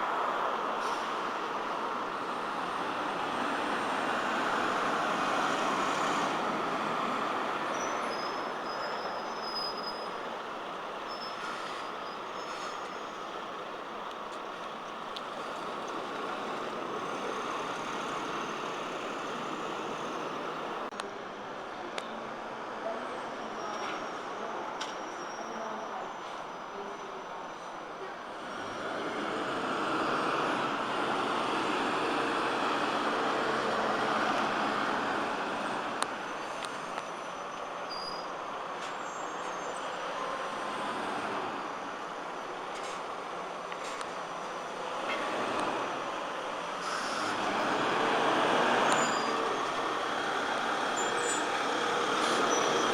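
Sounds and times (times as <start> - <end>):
bus road and running noise: 0.0 - 52.9.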